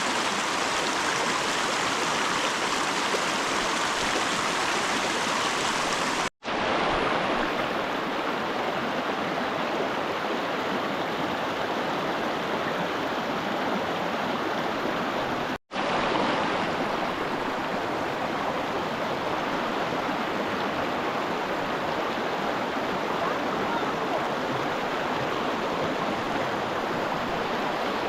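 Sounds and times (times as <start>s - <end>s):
fast-flowing river rushing: 0.0s - 28.0s.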